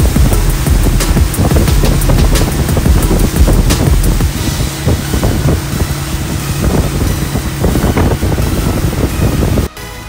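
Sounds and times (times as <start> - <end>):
wind buffeting microphone: 0.0 - 9.7
boat engine drone: 0.0 - 10.0
water rushing along hull: 0.0 - 10.0.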